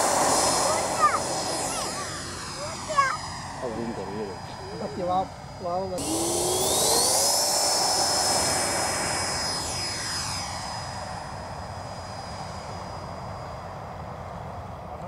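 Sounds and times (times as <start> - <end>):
electric ducted fan whine: 0.0 - 15.0.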